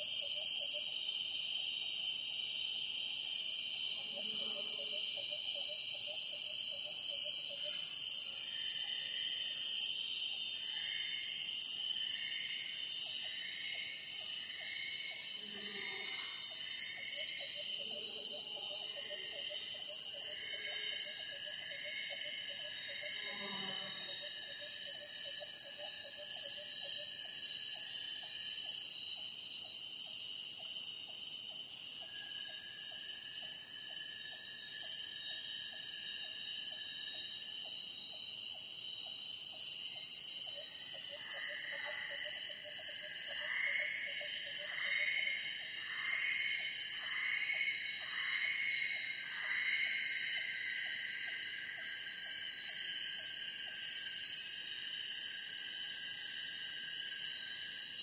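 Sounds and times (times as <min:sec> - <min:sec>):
insect trill: 0:00.0 - 0:58.0
insects and cicadas droning: 0:00.0 - 0:58.0
shrill insect hiss: 0:00.1 - 0:17.8, 0:18.8 - 0:58.0.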